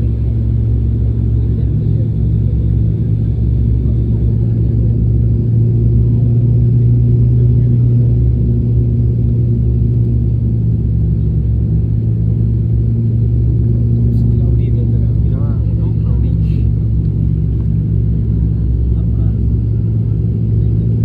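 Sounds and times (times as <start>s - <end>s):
turboprop engines humming: 0.0s - 21.0s.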